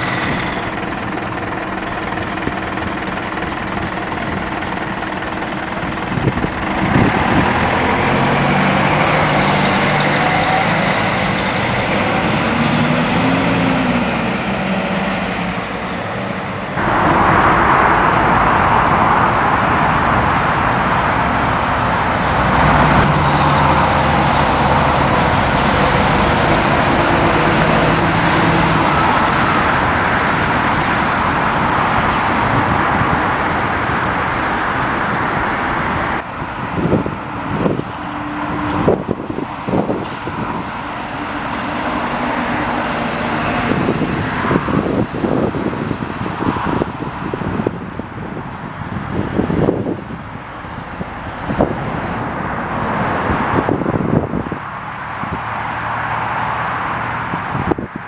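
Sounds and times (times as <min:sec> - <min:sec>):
diesel bus engines pulling away: 0:00.0 - 0:58.0.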